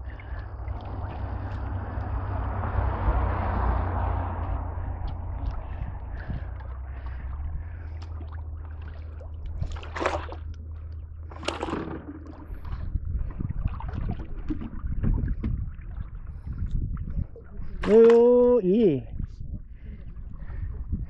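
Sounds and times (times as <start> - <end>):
low rumble: 0.0 - 18.0, 19.0 - 21.0
water splashes: 0.0 - 20.8
water lapping against boat: 0.0 - 21.0.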